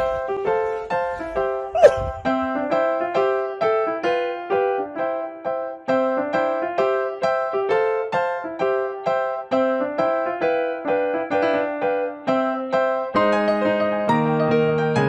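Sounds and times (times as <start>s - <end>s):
light keyboard melody: 0.0s - 15.0s.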